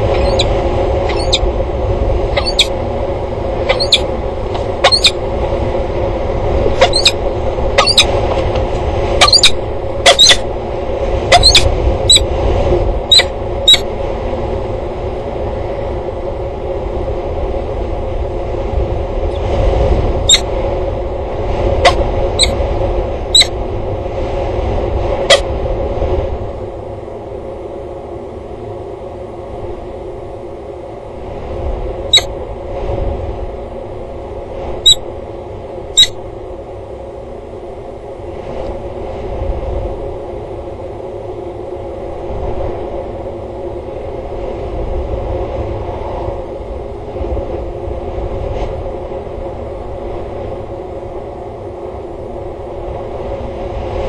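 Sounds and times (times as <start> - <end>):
constant hum: 0.0 - 54.0
wind rumble on microphone: 0.0 - 54.0.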